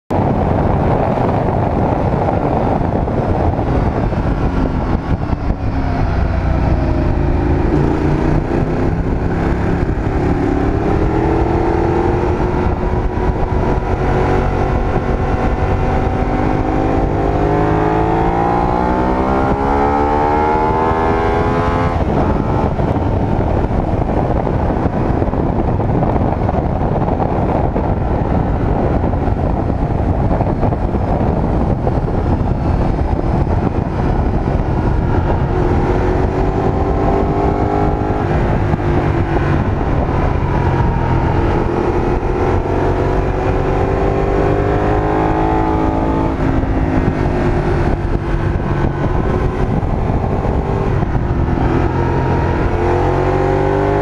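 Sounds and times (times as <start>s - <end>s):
motorcycle engine accelerating: 0.1s - 54.0s
wind rush on microphone: 0.1s - 54.0s.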